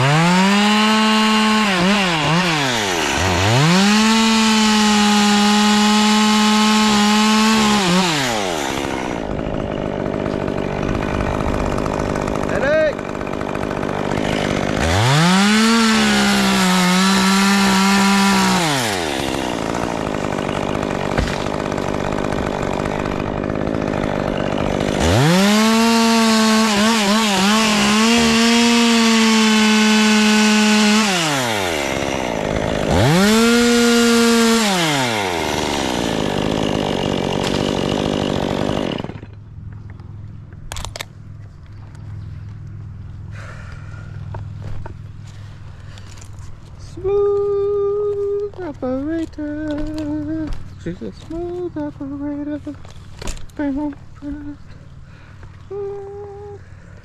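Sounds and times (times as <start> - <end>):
chainsaw cutting wood: 0.0 - 39.9, 40.7 - 41.1, 44.2 - 56.3.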